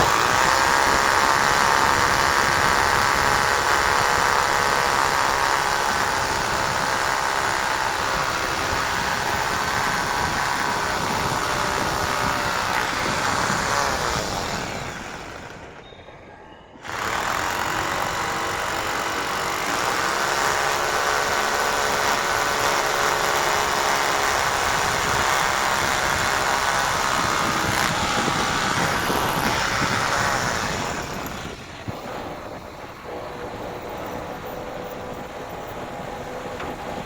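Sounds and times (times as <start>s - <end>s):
motor running: 0.0s - 15.8s, 16.8s - 37.0s.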